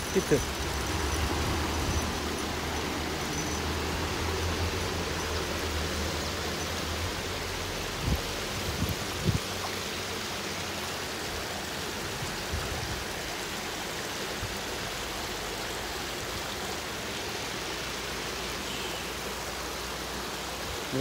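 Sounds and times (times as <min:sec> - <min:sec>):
stream rushing over pebbles: 0:00.0 - 0:21.0.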